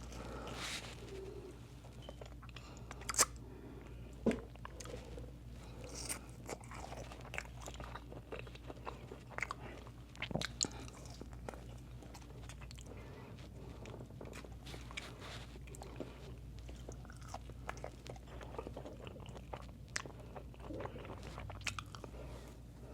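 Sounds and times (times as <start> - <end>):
person chewing crunchy food: 0.0 - 22.9.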